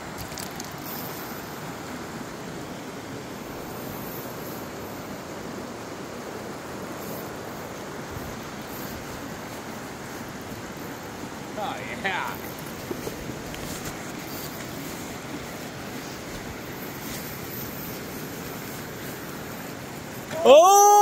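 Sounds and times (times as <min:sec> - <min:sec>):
river rushing through riffle: 0:00.0 - 0:21.0.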